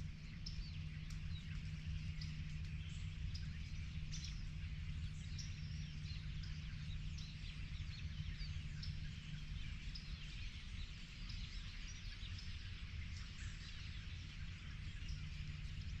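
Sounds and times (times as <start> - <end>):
low steady rumble: 0.0 - 16.0
songbirds chirping and trilling: 0.0 - 16.0.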